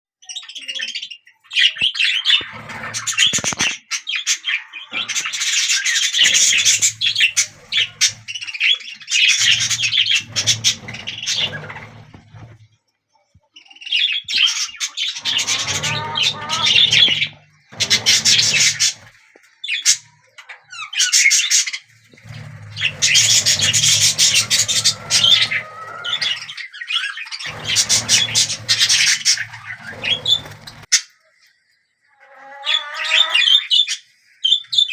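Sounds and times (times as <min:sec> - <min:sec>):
budgies chirping and squawking: 0:00.4 - 0:12.7, 0:13.6 - 0:31.2, 0:32.2 - 0:34.9.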